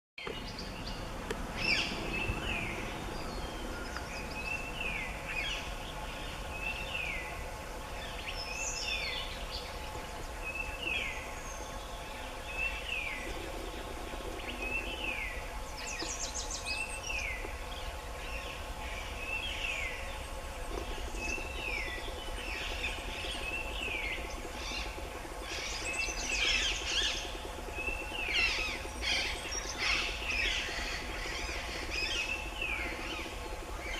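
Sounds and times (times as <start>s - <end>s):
other birds chirping: 0.2s - 33.9s.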